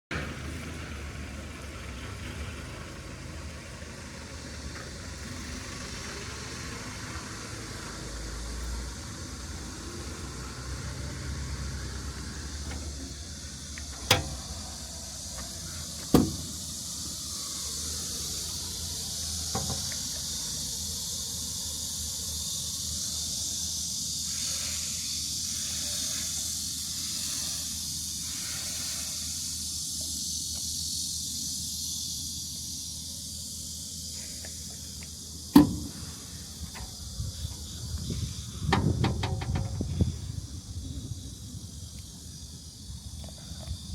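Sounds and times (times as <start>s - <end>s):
diesel generator humming: 0.1s - 43.9s
hiss of moving air: 0.7s - 43.9s.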